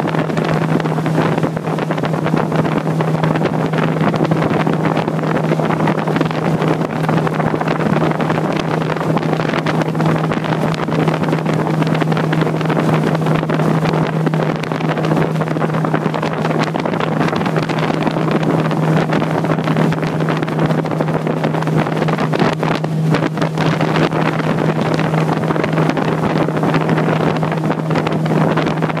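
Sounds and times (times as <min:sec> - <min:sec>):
outboard motor humming: 0:00.0 - 0:29.0
water rushing along hull: 0:00.0 - 0:29.0
wind buffeting microphone: 0:00.0 - 0:29.0.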